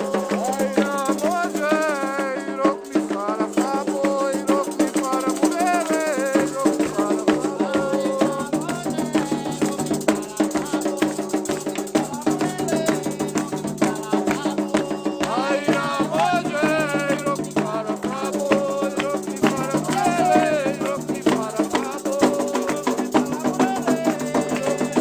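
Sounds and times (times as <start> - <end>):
drums and rattles rhythm: 0.0 - 25.0
people singing: 0.0 - 25.0.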